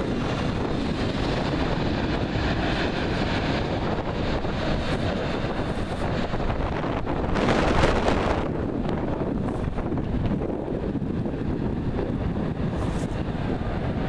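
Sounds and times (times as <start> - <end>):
high-speed train passing: 0.0 - 14.0
wind buffeting microphone: 0.0 - 14.0.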